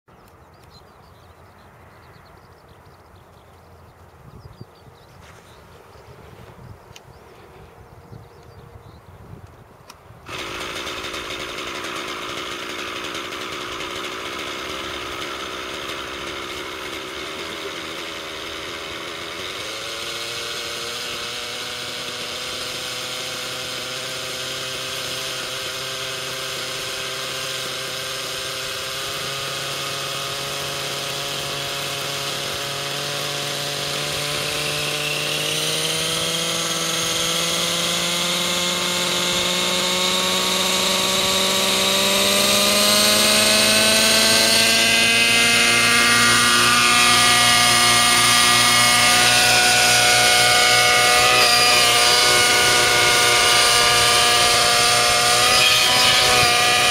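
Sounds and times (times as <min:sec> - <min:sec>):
model helicopter engine buzzing: 0:10.3 - 0:56.9.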